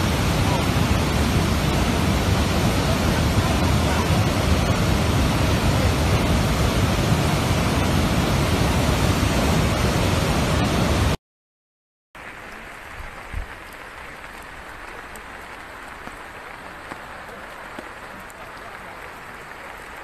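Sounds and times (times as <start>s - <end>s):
heavy rain downpour: 0.0s - 11.2s, 12.2s - 20.0s
rushing runoff water: 0.0s - 11.2s, 12.2s - 20.0s.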